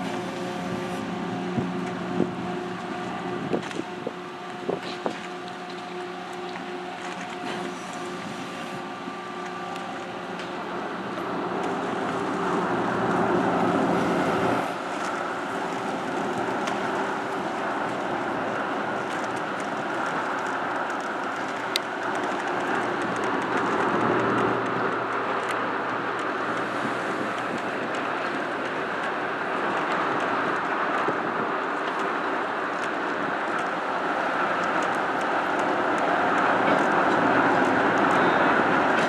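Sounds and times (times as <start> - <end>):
ferry engines rumbling: 0.0 - 39.0.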